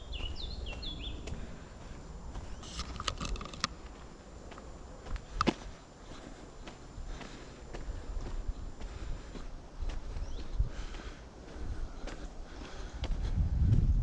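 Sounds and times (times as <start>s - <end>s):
footsteps on a footpath: 0.0s - 14.0s.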